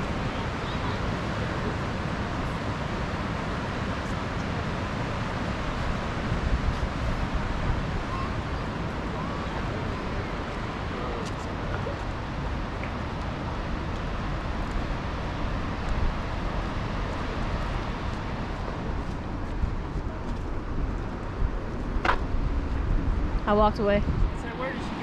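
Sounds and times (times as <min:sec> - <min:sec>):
steady low rushing noise: 0:00.0 - 0:25.0.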